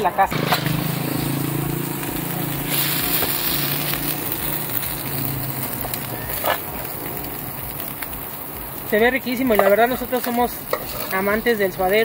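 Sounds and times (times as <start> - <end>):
meat sizzling in a frying pan: 0.3 - 12.0.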